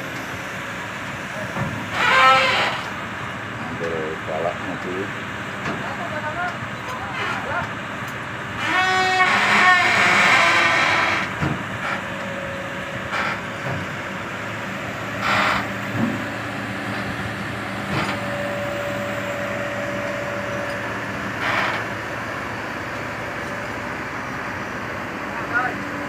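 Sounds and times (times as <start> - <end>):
diesel engines idling: 0.0 - 26.0.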